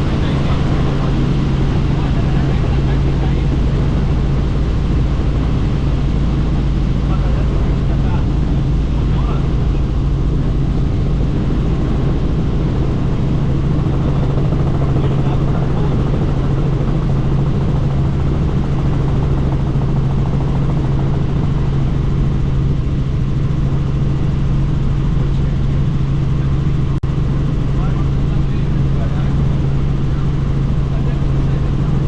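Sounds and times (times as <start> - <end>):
wind noise: 0.0 - 32.0.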